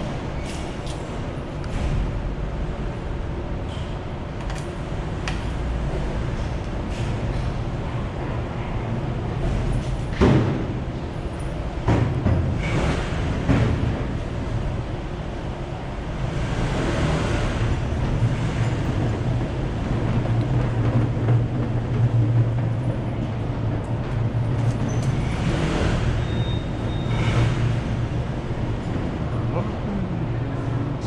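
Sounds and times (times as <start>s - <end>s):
steady low engine hum: 0.0s - 31.0s.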